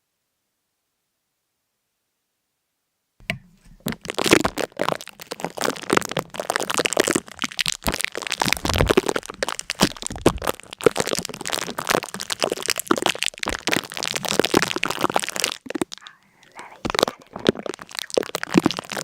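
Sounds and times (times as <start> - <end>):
rapid crackling and crunching: 3.2 - 19.0.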